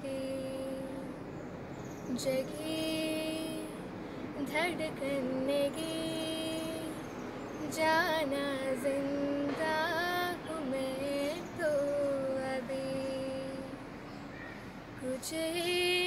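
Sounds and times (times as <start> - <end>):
girl singing: 0.0 - 1.2, 2.1 - 13.8, 15.0 - 16.0.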